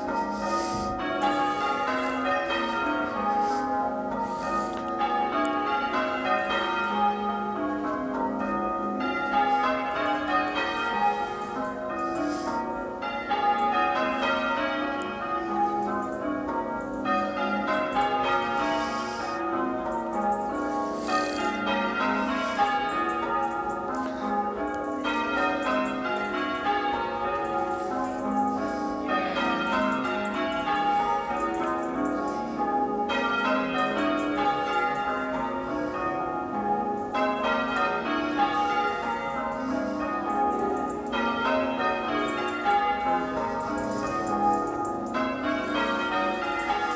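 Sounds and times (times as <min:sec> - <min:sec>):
church bells ringing changes: 0:00.0 - 0:46.9.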